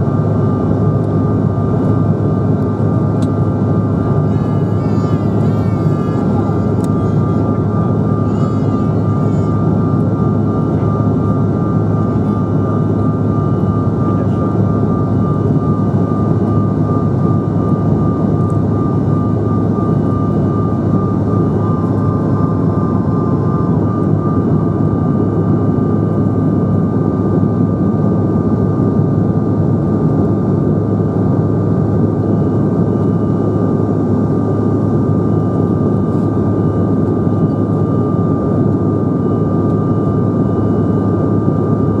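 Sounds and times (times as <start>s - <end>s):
airplane cabin engine rush: 0.0s - 42.0s
high engine whine: 0.0s - 42.0s.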